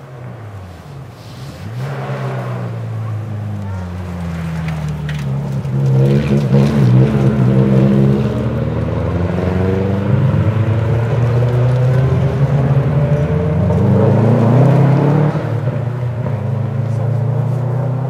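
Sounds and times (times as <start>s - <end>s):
rally car engines at full throttle: 0.0s - 18.0s.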